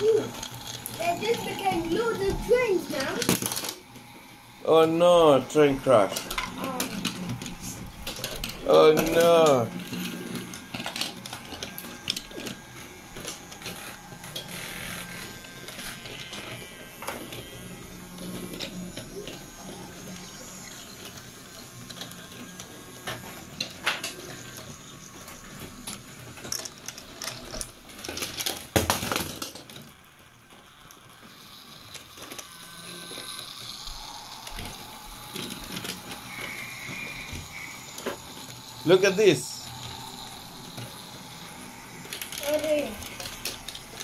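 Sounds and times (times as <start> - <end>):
toy train motor hum: 0.0 - 44.0
wheels clicking on wooden rails: 0.0 - 44.0.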